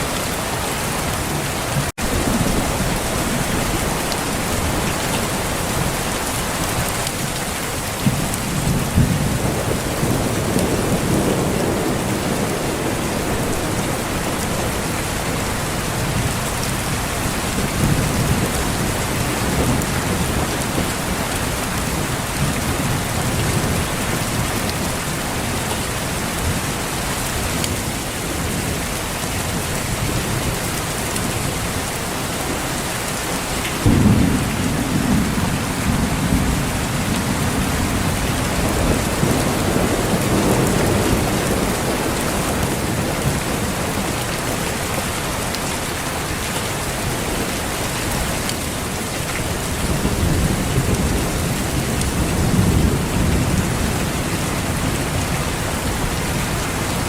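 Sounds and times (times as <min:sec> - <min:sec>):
thunder rumbling: 0:00.0 - 0:07.1, 0:07.7 - 0:28.8, 0:33.6 - 0:45.6, 0:46.9 - 0:57.0
heavy rain falling: 0:00.0 - 0:57.0.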